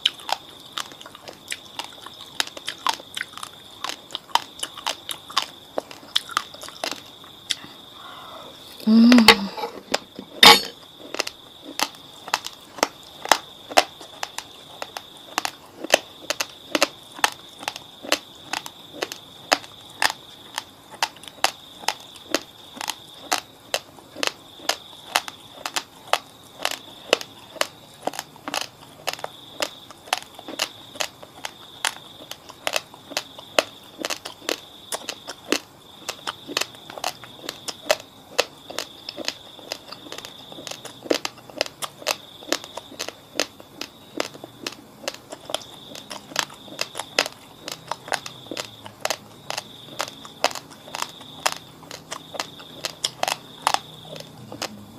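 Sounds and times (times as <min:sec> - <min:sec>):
chewing crunchy raw rice: 0:00.0 - 0:54.9.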